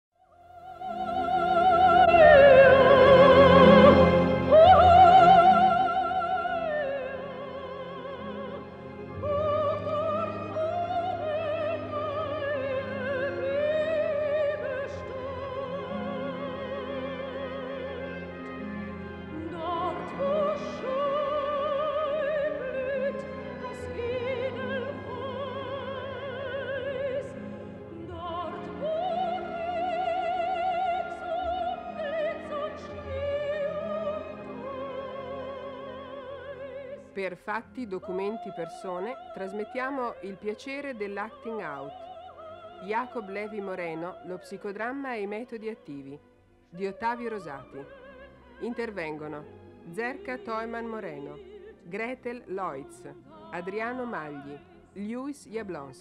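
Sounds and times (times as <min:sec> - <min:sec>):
opera singer with vibrato: 0:00.4 - 0:56.0.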